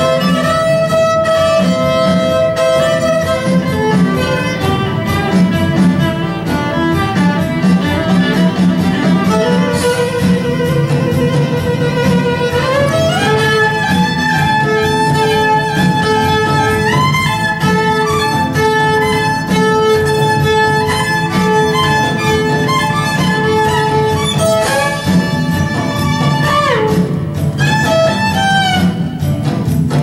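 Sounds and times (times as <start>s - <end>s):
violin sliding held notes: 0.0s - 29.4s
backing track with steady beat: 0.0s - 30.0s.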